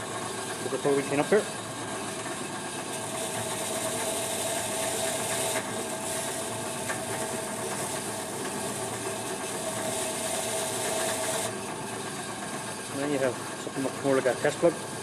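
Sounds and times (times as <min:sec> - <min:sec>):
drill press motor hum: 0:00.0 - 0:15.0.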